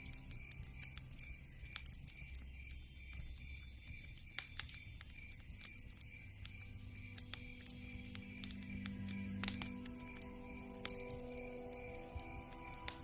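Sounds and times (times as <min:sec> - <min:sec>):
campfire crackling and popping: 0:00.0 - 0:13.0
insect chirping: 0:00.0 - 0:13.0.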